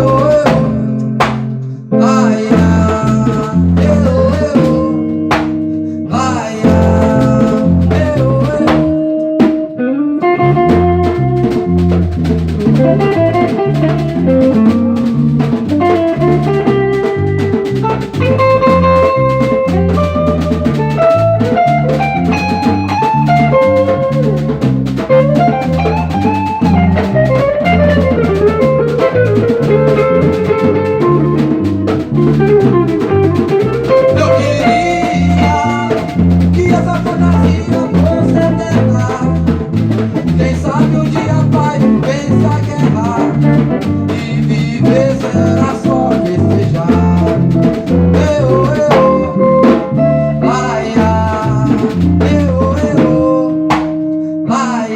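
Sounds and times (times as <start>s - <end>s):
bass and drums groove: 0.0s - 54.1s
guitar lead line: 0.0s - 54.9s.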